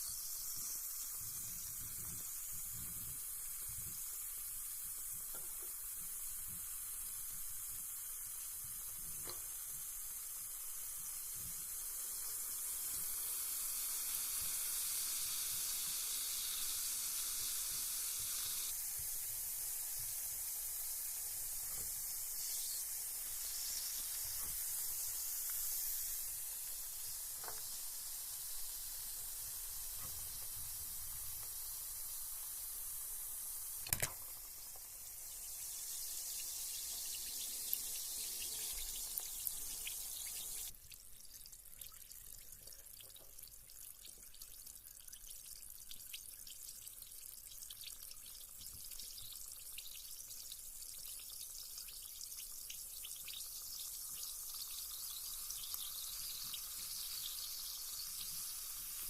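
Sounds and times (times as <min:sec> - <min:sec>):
bath bomb fizzing in water: 0:00.0 - 0:59.0.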